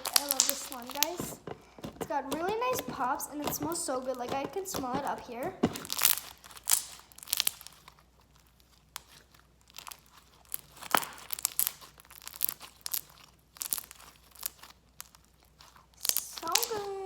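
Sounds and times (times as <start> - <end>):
crunchy slime squished by hand: 0.0 - 17.0.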